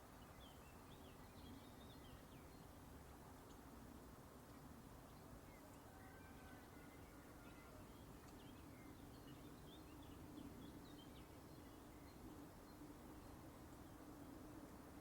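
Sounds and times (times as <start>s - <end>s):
small birds chirping: 0.1s - 3.7s, 4.5s - 14.4s.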